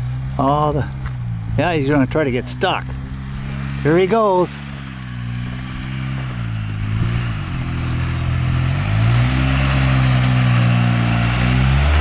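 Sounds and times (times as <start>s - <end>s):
vehicle engine working hard: 0.0s - 12.0s.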